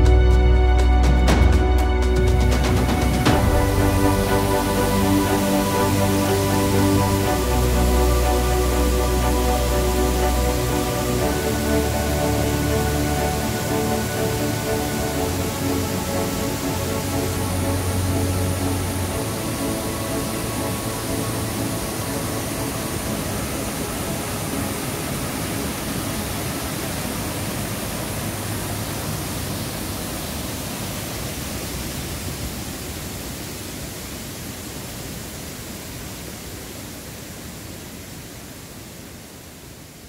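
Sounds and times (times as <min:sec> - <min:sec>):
water rushing over rocks: 0:02.2 - 0:40.0.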